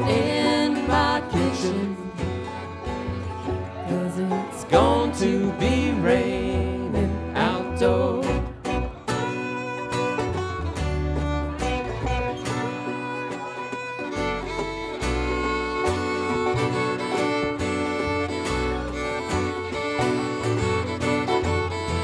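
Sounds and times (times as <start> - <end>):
banjo: 0.0 - 22.0
fiddle lead: 0.0 - 22.0
mandolin: 0.0 - 22.0
strummed acoustic guitar: 0.0 - 22.0
upright bass: 0.0 - 22.0.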